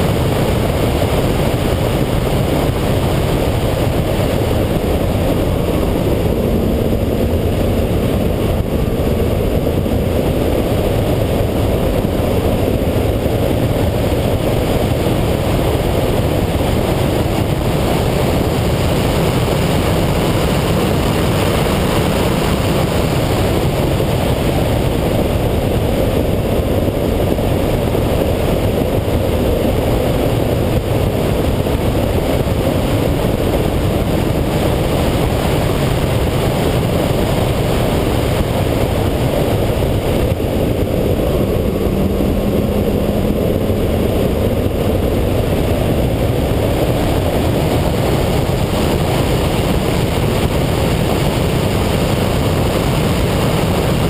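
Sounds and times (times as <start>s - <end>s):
sports car engine at speed: 0.0s - 54.0s
wind noise: 0.0s - 54.0s.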